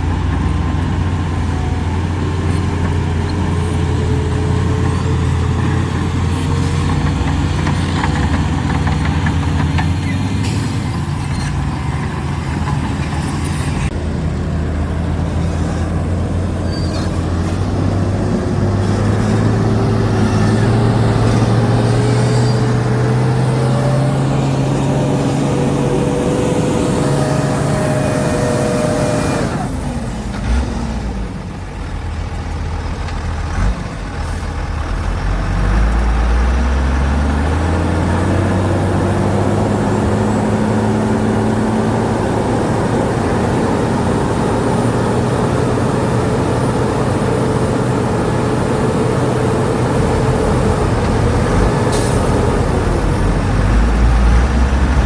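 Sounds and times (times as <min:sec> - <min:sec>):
heavy diesel engine revving: 0:00.0 - 0:55.0.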